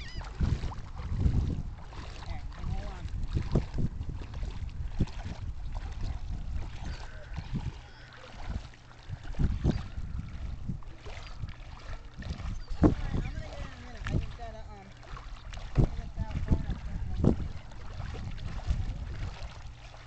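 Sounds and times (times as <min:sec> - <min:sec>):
water splashing around kayak: 0:00.0 - 0:20.0.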